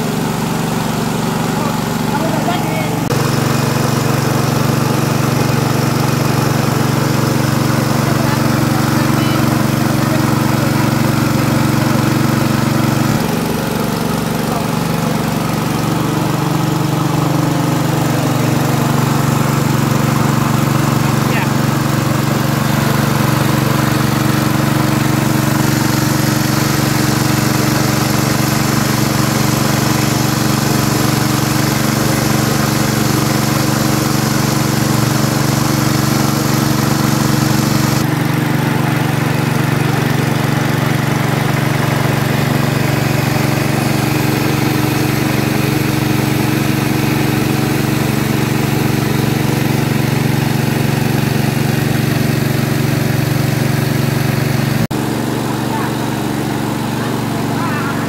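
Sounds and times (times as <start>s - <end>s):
engine drone: 0.0s - 58.0s.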